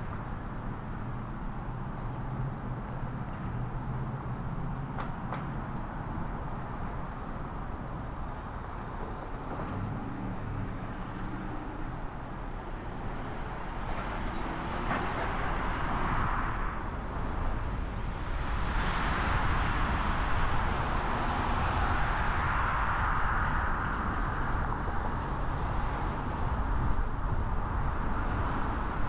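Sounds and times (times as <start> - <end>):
traffic rumble: 0.0 - 29.0
vehicles passing: 0.0 - 29.0.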